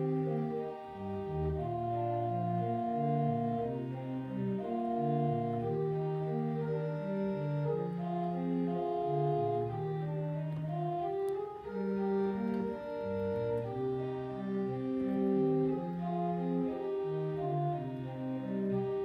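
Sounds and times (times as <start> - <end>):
church organ sustained chords: 0.0 - 19.0.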